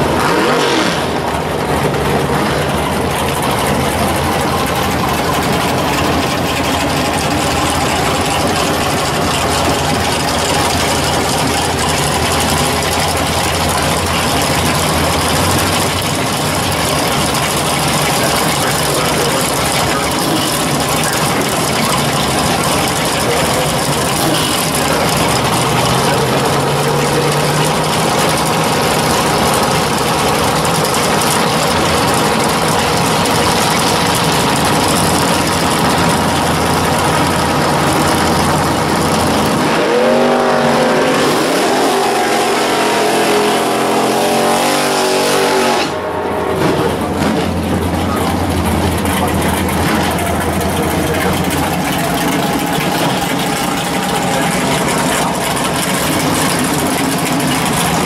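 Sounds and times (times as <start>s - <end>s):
car engine idling loudly: 0.0s - 58.0s.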